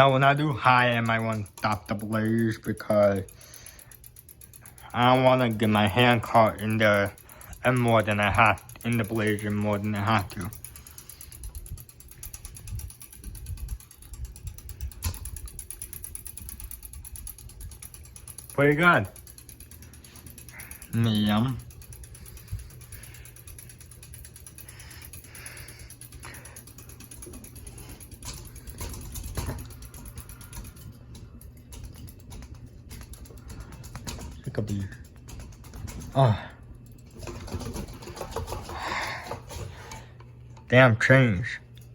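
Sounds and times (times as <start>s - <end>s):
ceiling fan running: 0.0s - 41.9s.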